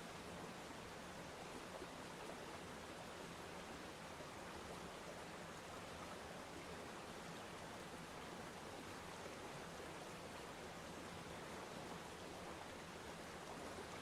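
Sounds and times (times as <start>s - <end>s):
waterfall: 0.0s - 14.0s.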